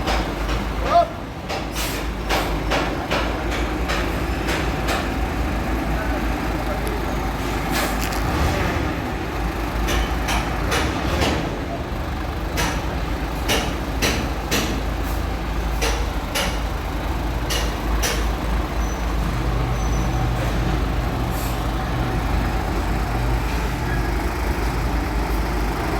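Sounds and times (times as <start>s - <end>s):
diesel truck engine running: 0.0s - 25.9s.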